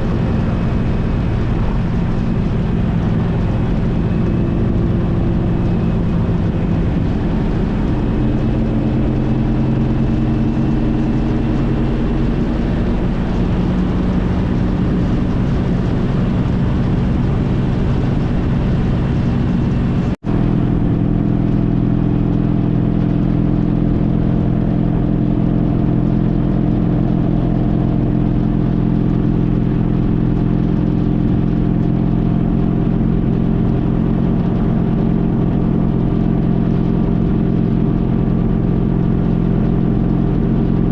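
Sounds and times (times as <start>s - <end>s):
motorcycle engine running: 0.0s - 40.9s
road noise: 0.0s - 40.9s
wind noise: 0.0s - 40.9s.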